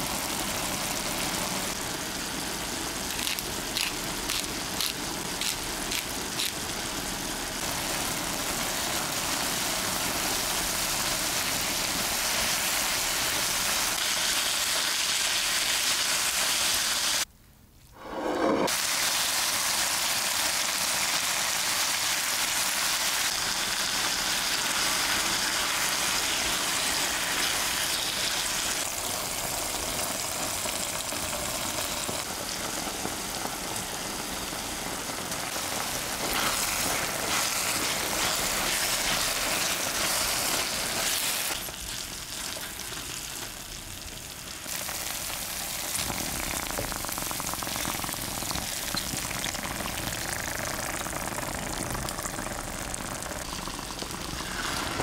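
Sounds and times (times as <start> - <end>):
meat and onion sizzling in pan: 0.0 - 17.3, 18.6 - 55.0.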